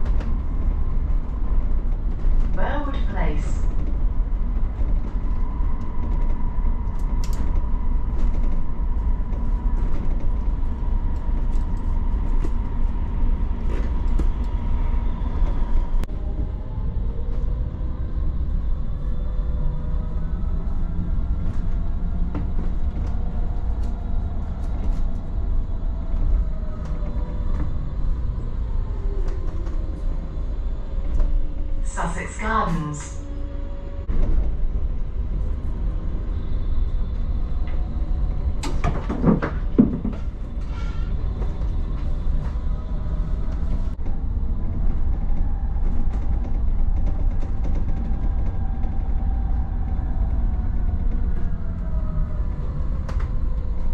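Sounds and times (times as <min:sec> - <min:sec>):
bus ride rumble: 0:00.0 - 0:53.9.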